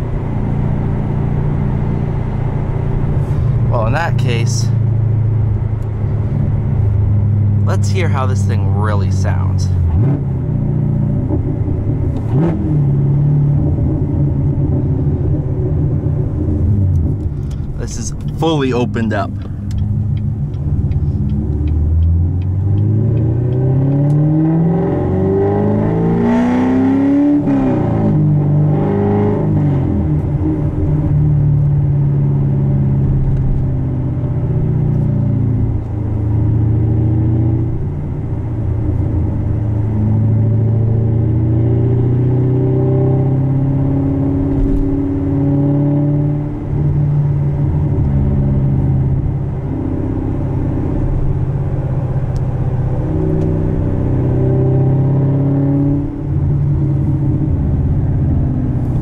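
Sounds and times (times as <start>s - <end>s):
loud car engine accelerating: 0.0s - 59.0s.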